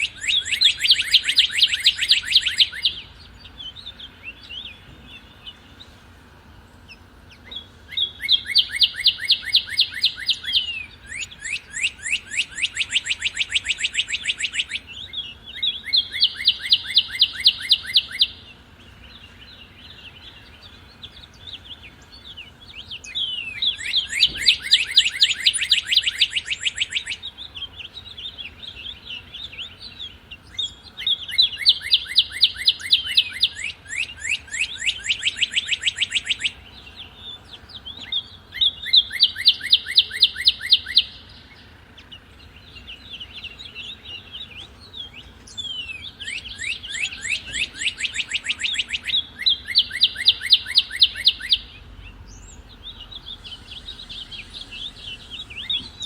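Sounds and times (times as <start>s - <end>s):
bird singing slurred whistles: 0.0s - 5.8s, 6.9s - 56.0s
soft bird chirps: 0.0s - 56.0s.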